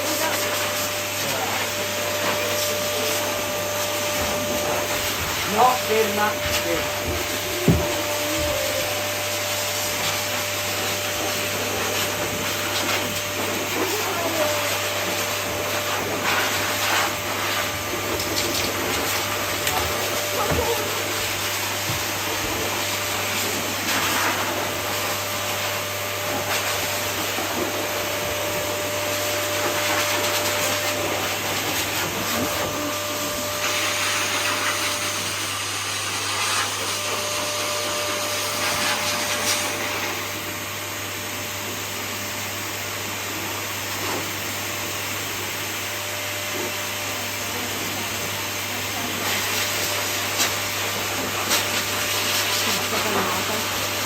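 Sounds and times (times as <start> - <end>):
blow dryer running: 0.0 - 54.0.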